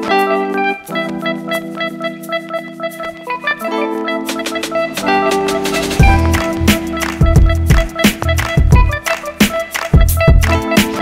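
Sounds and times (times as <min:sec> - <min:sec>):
instrumental music with drum beat: 0:00.0 - 0:11.0.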